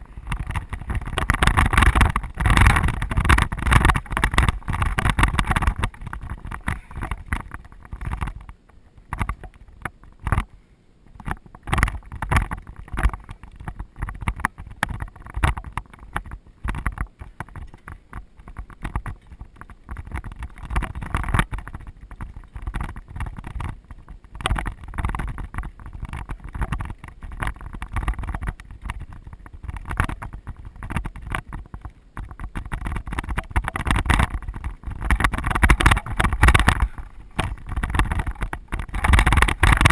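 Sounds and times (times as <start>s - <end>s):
wind buffeting microphone: 0.0s - 10.5s, 11.1s - 39.9s
bike rattling and knocking: 0.0s - 39.9s.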